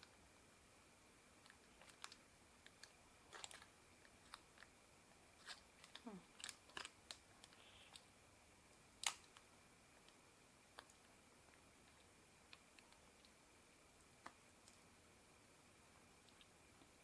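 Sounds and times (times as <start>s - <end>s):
faint chewing with crunches: 1.1s - 8.1s, 8.7s - 17.0s.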